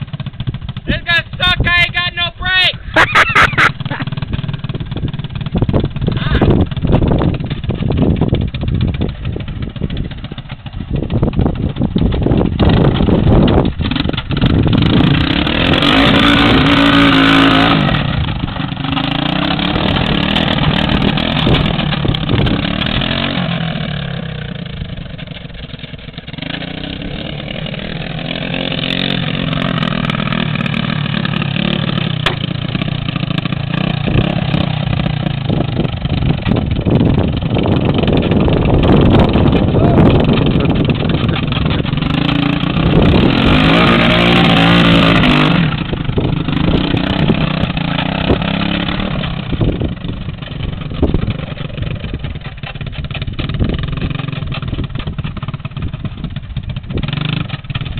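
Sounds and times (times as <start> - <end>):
engine revving through mud: 2.8 - 7.5, 11.9 - 57.9.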